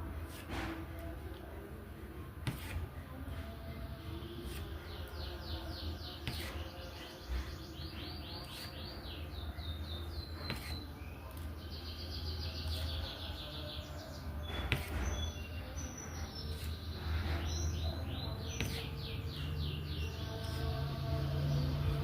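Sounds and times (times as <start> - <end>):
birds chirping in trills: 4.1 - 22.0.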